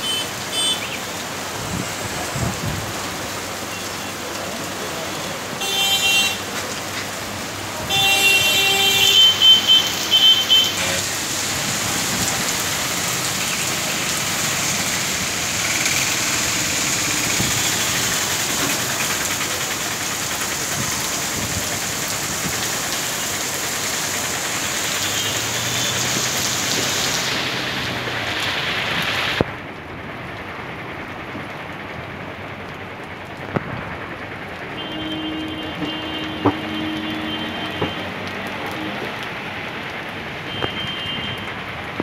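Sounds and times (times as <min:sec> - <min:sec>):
heavy rain hissing: 0:00.0 - 0:42.0
traffic on wet road: 0:00.0 - 0:42.0.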